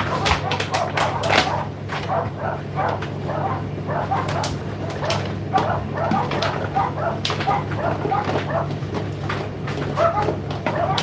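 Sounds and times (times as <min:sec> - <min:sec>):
dryer drum squeaks and clicks: 0:00.0 - 0:11.0
tumble dryer motor and drum hum: 0:00.0 - 0:11.0.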